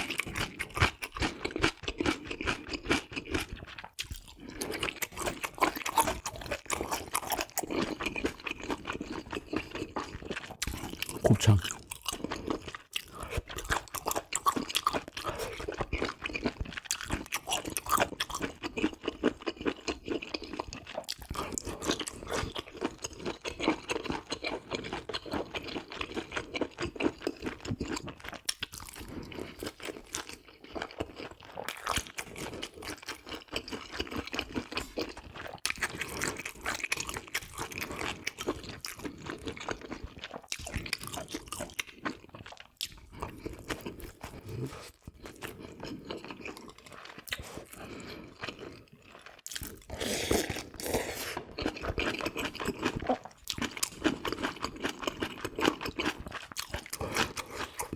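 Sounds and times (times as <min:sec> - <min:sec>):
wet crunchy chewing: 0:00.0 - 0:57.9.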